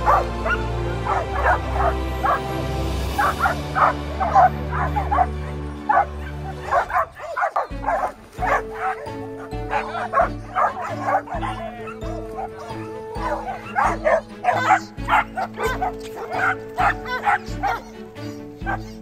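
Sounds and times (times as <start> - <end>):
background music with held notes: 0.0 - 19.0
dogs barking: 0.0 - 19.0.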